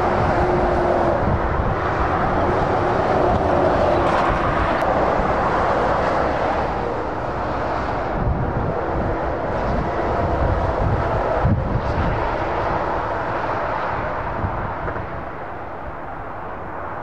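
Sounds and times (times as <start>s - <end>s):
engine drone: 0.0s - 17.0s
low rumble of lorries: 0.0s - 17.0s
tyre noise of passing vehicles: 0.0s - 17.0s.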